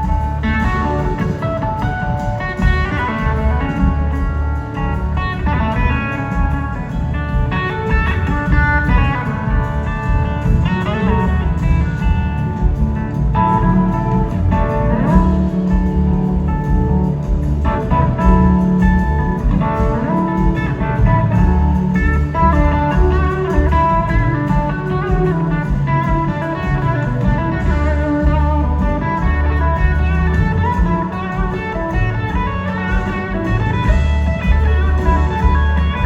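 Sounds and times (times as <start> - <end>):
blues-rock band playing: 0.0 - 36.0
electric guitar lead lines: 0.0 - 36.0.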